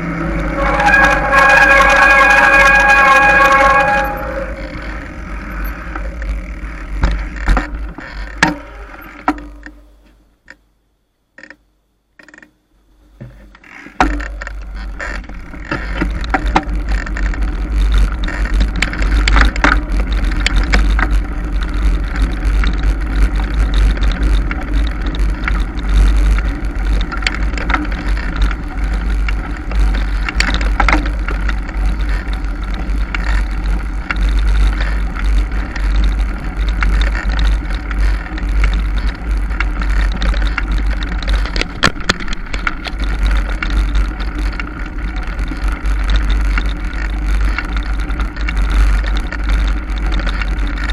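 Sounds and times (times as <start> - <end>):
bike rattling and clicking: 0.0 - 10.6, 11.4 - 12.6, 13.2 - 50.9.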